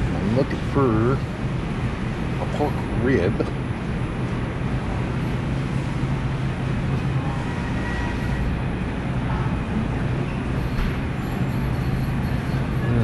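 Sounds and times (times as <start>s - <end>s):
supermarket background hum: 0.0s - 13.0s.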